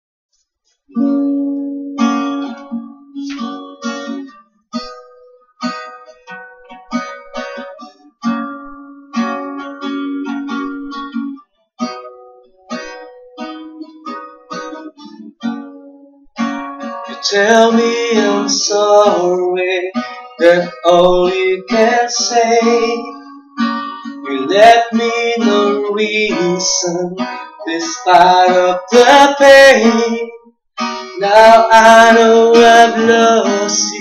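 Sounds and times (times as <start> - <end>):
acoustic guitar picking: 0.9 - 34.0.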